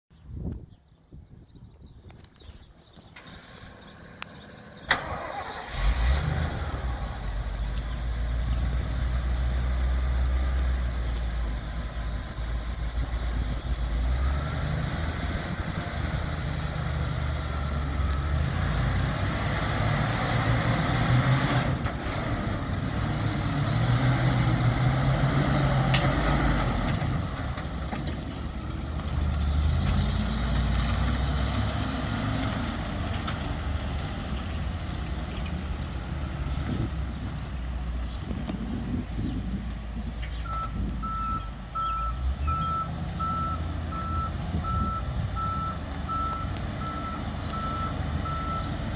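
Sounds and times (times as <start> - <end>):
truck engine starting and revving: 3.0 - 48.9.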